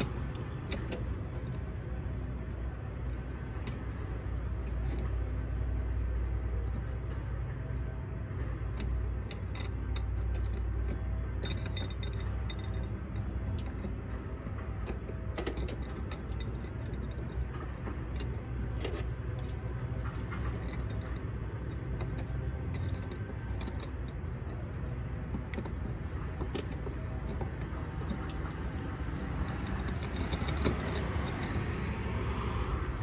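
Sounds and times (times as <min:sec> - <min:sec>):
metallic clicks and rattles: 0:00.0 - 0:33.0
steady low rumble: 0:00.0 - 0:33.0.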